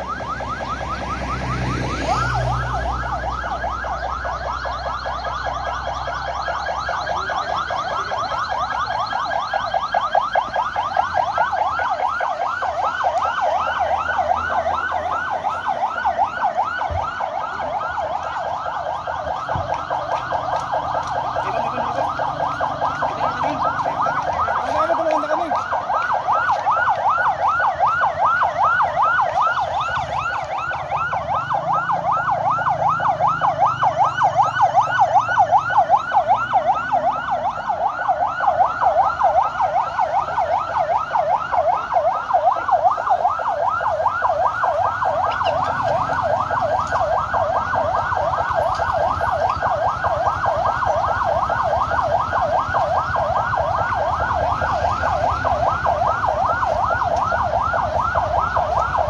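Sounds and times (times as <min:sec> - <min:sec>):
ambulance siren yelping: 0:00.0 - 0:59.0.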